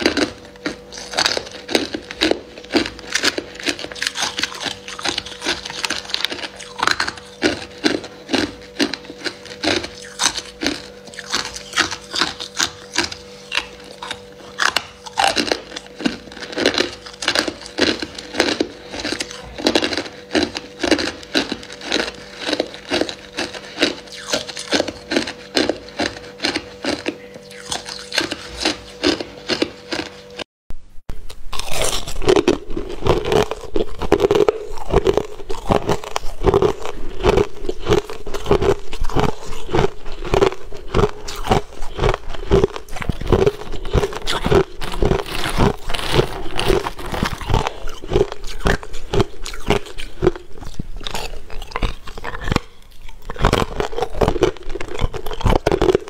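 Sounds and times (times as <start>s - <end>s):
ice cubes being chewed: 0.0s - 30.4s, 31.3s - 56.0s.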